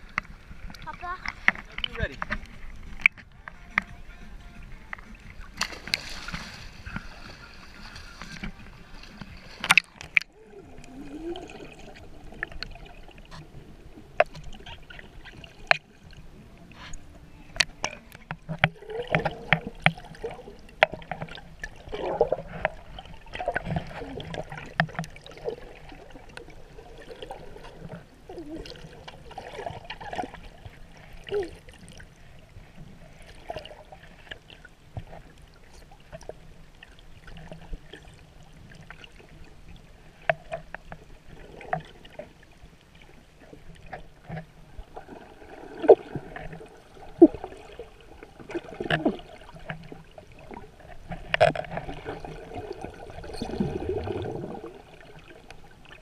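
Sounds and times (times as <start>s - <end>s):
small underwater clicks and knocks: 0.0s - 4.0s, 4.7s - 11.0s, 11.9s - 56.0s
muffled underwater wash and gurgling: 4.6s - 56.0s.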